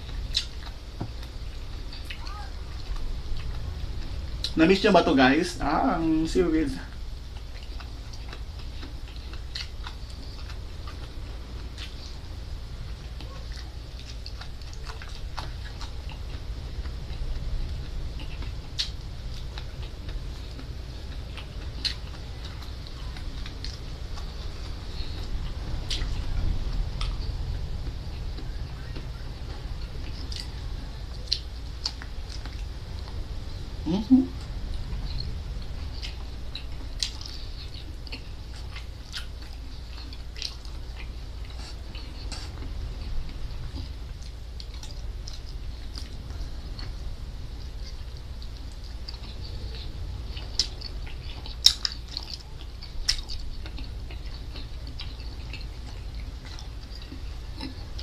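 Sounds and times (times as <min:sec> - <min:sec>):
person chewing seaweed: 0:00.0 - 0:05.0, 0:05.6 - 0:58.0
low steady hum: 0:00.0 - 0:58.0.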